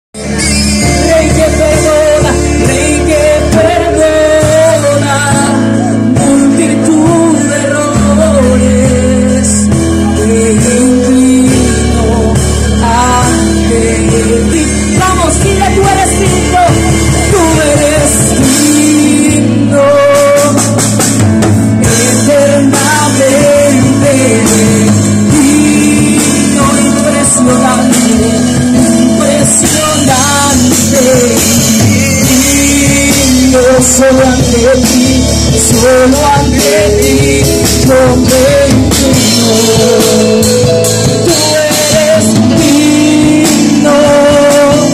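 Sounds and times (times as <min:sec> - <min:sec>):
drums: 0:00.1 - 0:44.9
keyboard: 0:00.1 - 0:44.9
woman singing into a microphone: 0:00.2 - 0:44.9.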